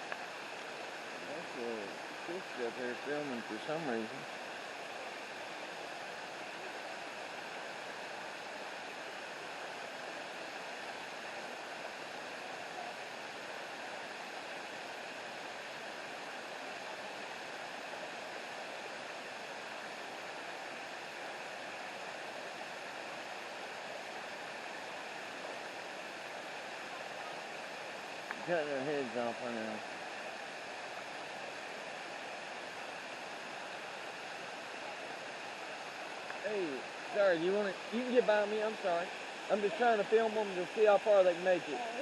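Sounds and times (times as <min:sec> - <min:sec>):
waterfall and stream rushing: 0:00.0 - 0:42.0.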